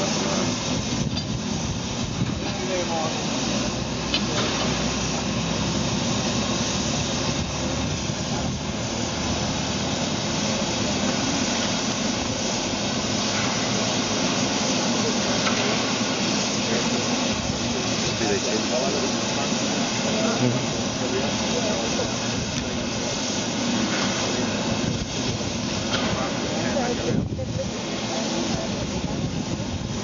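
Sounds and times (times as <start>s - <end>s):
steam hissing from locomotive: 0.0s - 30.0s.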